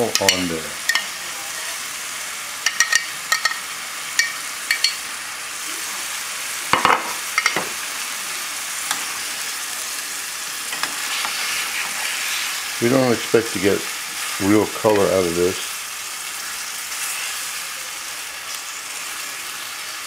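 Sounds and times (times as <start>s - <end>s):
meat frying in skillet: 0.0s - 20.0s.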